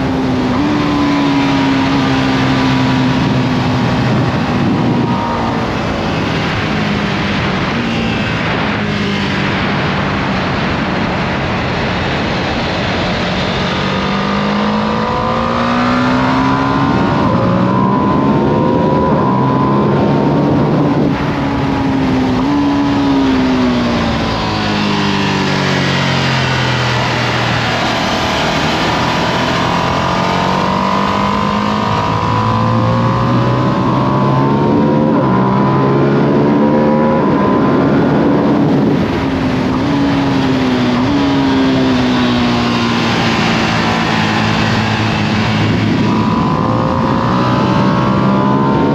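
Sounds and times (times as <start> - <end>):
motorcycle engine accelerating: 0.0 - 48.9
wind rush: 0.0 - 48.9.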